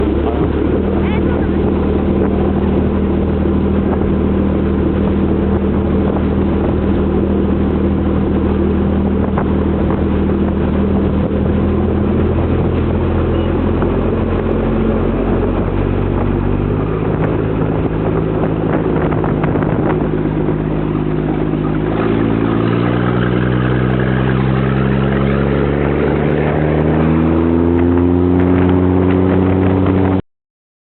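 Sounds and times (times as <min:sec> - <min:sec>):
boat engine running: 0:00.0 - 0:30.2
water noise: 0:00.0 - 0:30.2.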